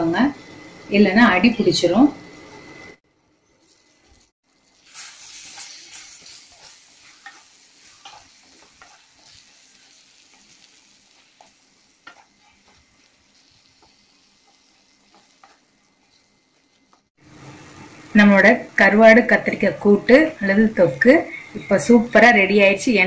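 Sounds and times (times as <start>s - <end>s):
gravy sizzling: 0.0s - 23.0s.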